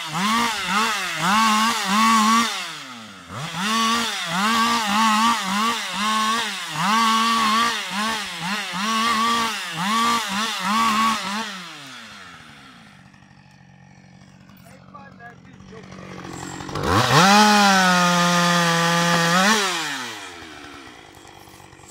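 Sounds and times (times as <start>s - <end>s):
chainsaw revving and idling: 0.0s - 21.9s.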